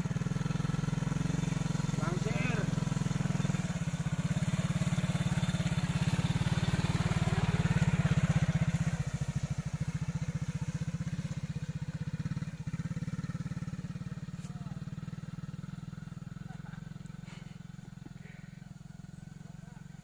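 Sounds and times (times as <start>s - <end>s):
small motorcycle engine puttering: 0.0s - 20.0s.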